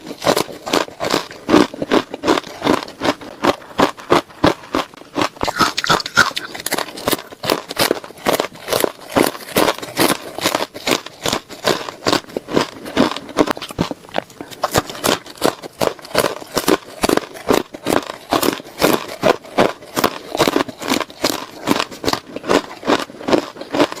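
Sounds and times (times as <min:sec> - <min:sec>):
ice being chewed: 0:00.0 - 0:24.0.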